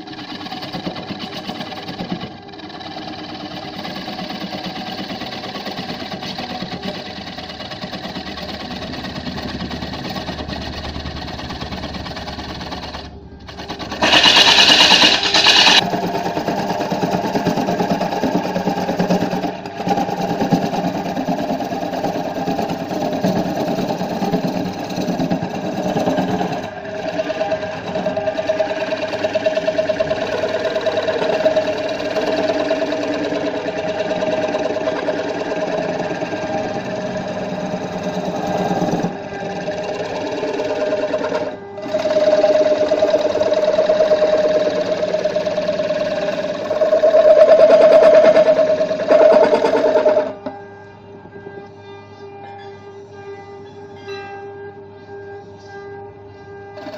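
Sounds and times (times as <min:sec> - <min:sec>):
wood lathe turning tool cutting: 0:00.0 - 0:50.6.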